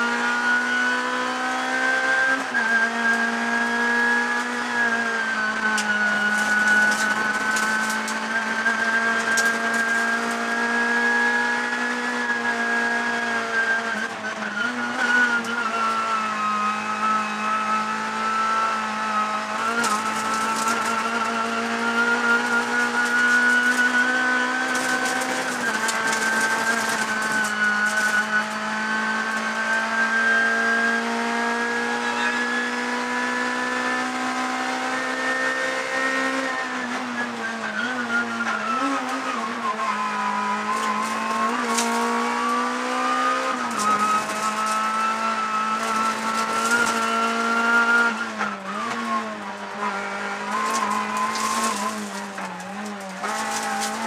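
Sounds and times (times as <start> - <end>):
car engine at high revs: 0.0 - 54.0.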